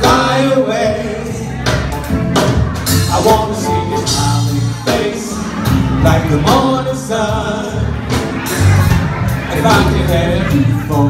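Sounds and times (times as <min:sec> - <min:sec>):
man singing: 0:00.0 - 0:02.0, 0:02.9 - 0:08.4, 0:09.3 - 0:11.0
gospel band playing: 0:00.0 - 0:11.0.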